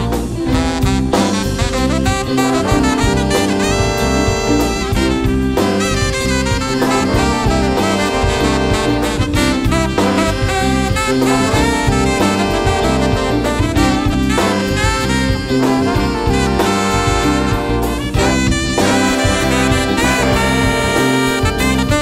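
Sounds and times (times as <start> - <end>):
brass chords: 0.0 - 22.0
drums: 0.0 - 22.0
keyboard: 0.0 - 22.0
saxophones: 0.0 - 22.0.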